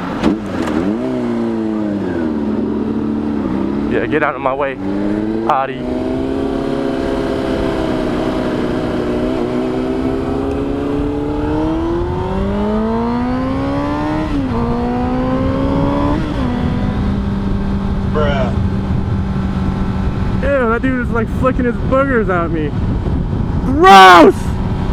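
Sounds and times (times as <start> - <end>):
motorcycle engine revving: 0.0 - 23.6
wind noise: 4.8 - 24.9.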